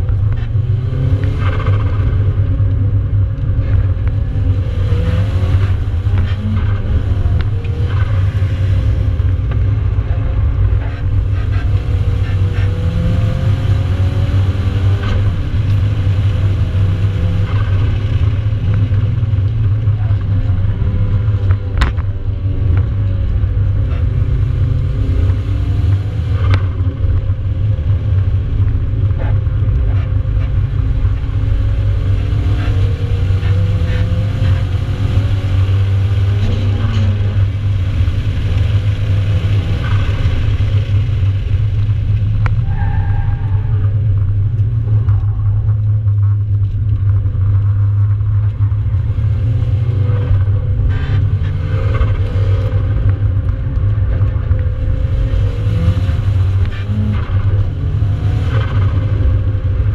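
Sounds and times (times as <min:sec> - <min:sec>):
car engine revving: 0:00.0 - 0:59.9
road and wind rumble: 0:00.0 - 0:59.9.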